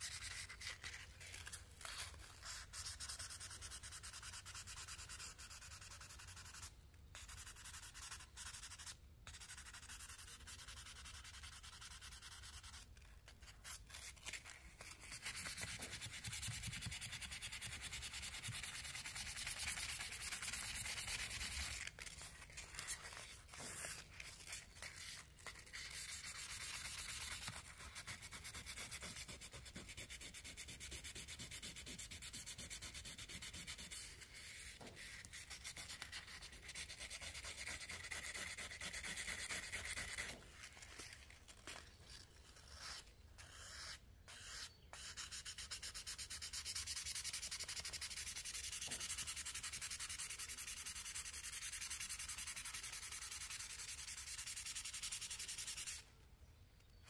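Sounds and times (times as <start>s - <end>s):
sandpaper rubbing on steel blade: 0.0s - 56.0s.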